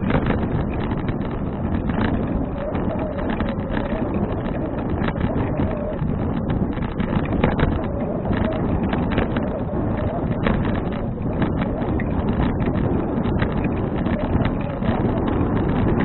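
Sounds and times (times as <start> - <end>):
small clicks and rattles: 0.0 - 16.0
wind buffeting microphone: 0.0 - 16.0.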